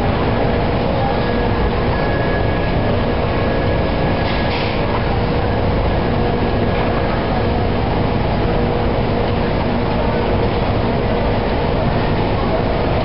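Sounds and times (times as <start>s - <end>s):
mechanical rumble with hum: 0.0s - 13.0s.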